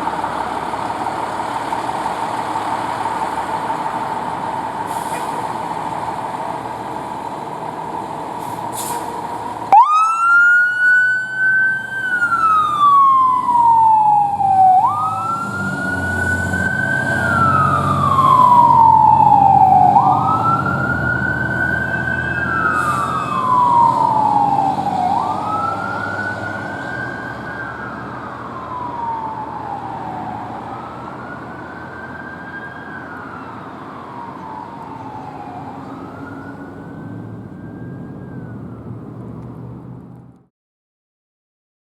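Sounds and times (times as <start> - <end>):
fire engine siren wailing: 0.0 - 40.1
truck engine rumble: 0.0 - 40.5.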